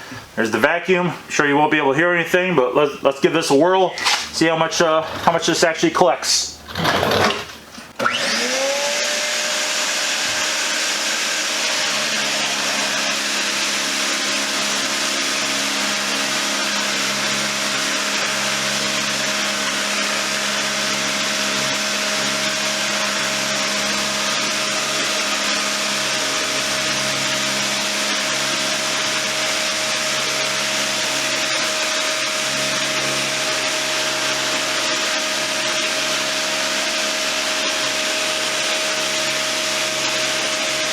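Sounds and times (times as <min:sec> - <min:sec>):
electric sander humming: 0:05.0 - 0:05.5, 0:06.7 - 0:40.9
shop vacuum motor whine: 0:06.7 - 0:40.9.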